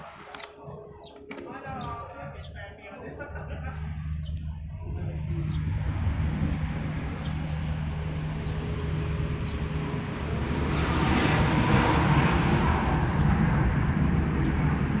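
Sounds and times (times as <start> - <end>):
airliner engines running: 0.0 - 15.0.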